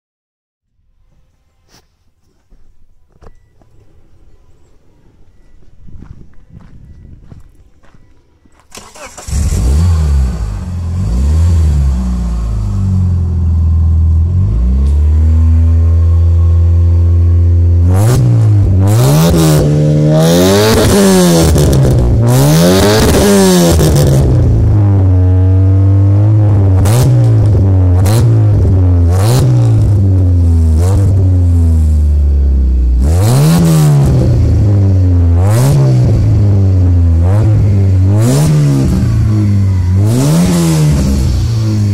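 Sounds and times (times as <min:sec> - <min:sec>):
car engine idling and revving: 0:03.2 - 0:41.9.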